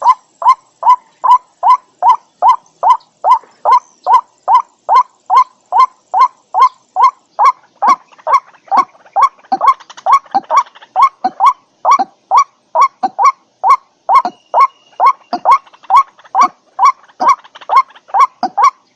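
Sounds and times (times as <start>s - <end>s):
waterhen calling: 0.0s - 18.9s.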